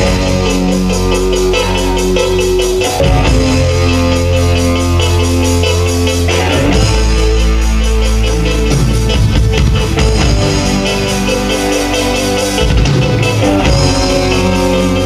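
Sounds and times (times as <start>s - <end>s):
deep held bass notes: 0.0s - 15.0s.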